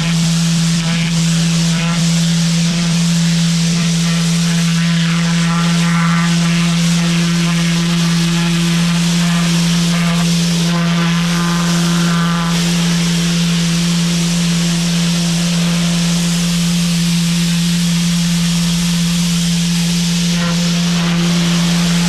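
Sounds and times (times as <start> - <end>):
high whine: 0.0 - 22.0
pressure washer humming: 0.0 - 22.0
water spray hissing on concrete: 0.0 - 22.0.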